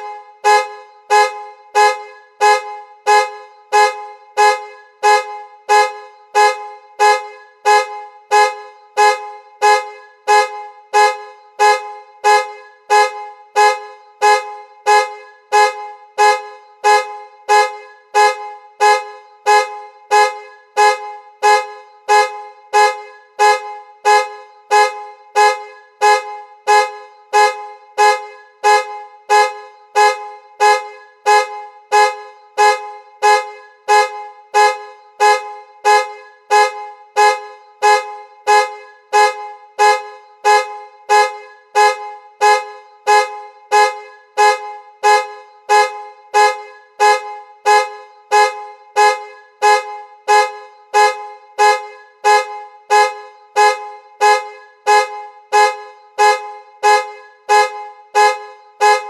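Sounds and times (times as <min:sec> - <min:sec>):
car horn honking blasts: 0:00.0 - 0:59.0.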